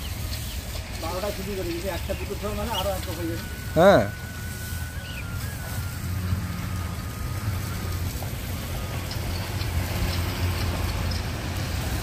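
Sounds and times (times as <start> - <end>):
hose spraying water: 0.0 - 12.0
machinery motor hum: 0.0 - 12.0.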